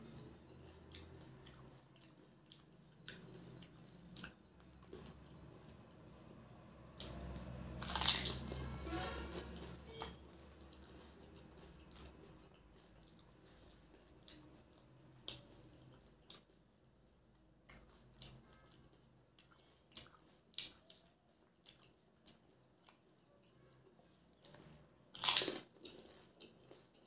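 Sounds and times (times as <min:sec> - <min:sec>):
faint wet chewing: 0:00.0 - 0:27.0.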